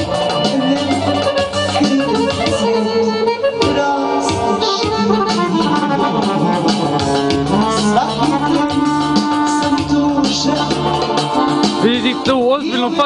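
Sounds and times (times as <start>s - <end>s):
accordion melody: 0.0s - 13.0s
electronic keyboard playing: 0.0s - 13.0s.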